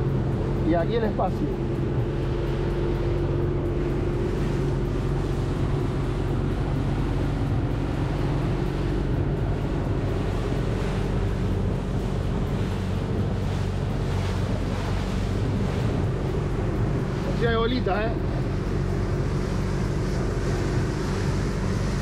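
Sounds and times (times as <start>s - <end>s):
boat engine running: 0.0s - 22.0s
water rushing past hull: 0.0s - 22.0s
wind on microphone: 0.0s - 22.0s.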